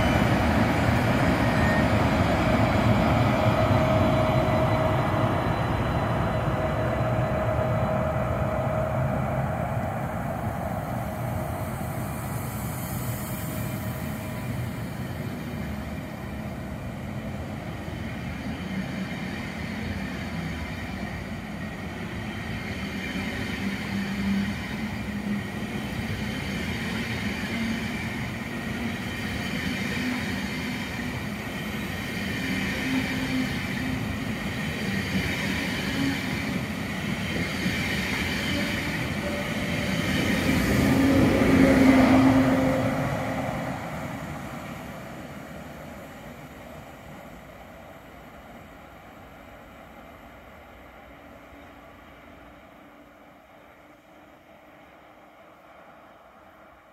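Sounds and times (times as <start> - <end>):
low train hum: 0.0 - 56.9
train wheels rolling on rails: 0.0 - 56.9.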